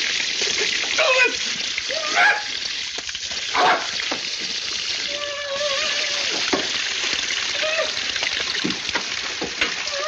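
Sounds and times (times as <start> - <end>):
water spraying from broken pipe: 0.0 - 10.0.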